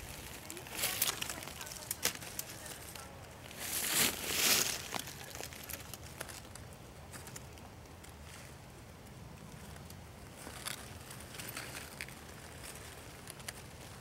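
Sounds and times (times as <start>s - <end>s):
dry leaves and twigs crackling: 0.0s - 14.0s.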